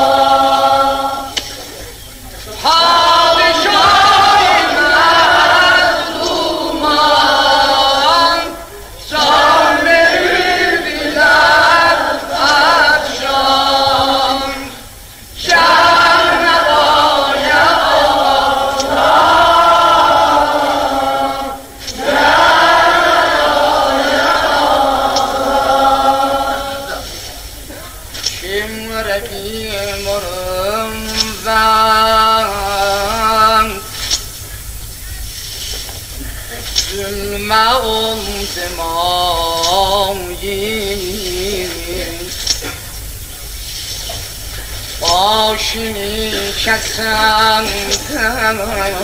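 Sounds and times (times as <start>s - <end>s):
group of voices singing elegy: 0.0s - 34.8s, 36.6s - 43.2s, 44.0s - 49.0s.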